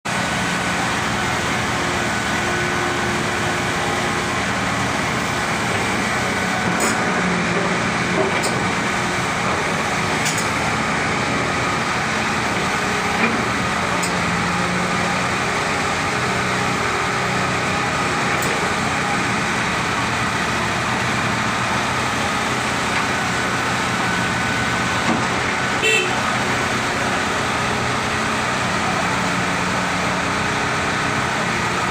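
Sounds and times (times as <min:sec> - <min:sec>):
excavator diesel engine running: 0:00.1 - 0:31.9.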